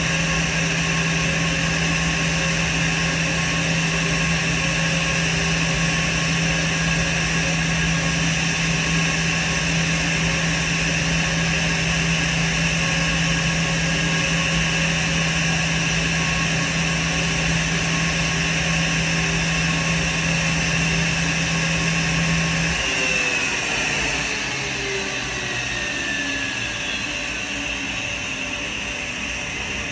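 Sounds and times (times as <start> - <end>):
jet engines idling: 0.0 - 29.9.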